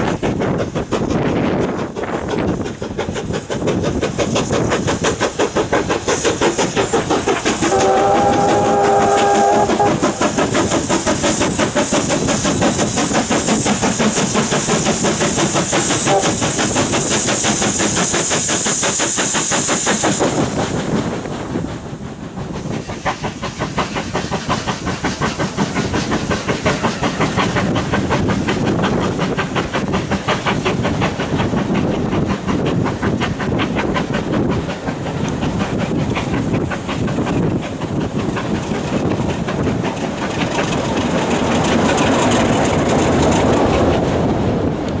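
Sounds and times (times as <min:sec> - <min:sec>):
steam hiss: 0:00.0 - 0:45.0
wheels clicking over rail joints: 0:00.0 - 0:45.0.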